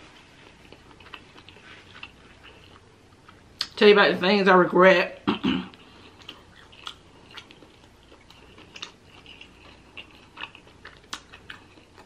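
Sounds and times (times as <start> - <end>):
person chewing with wet smacks: 0.2 - 3.8, 5.7 - 12.0.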